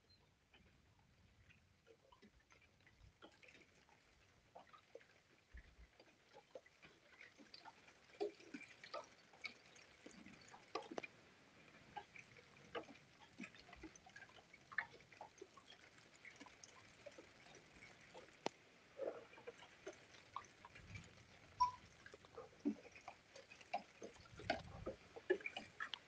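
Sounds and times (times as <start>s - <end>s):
raindrops tapping on hard surfaces: 4.6s - 26.0s.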